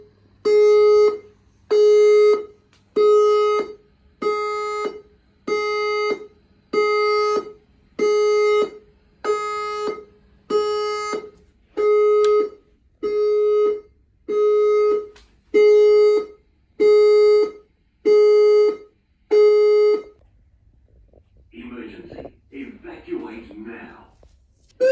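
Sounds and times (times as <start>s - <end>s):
fire alarm horn pulsing: 0.0s - 20.2s, 24.7s - 24.9s.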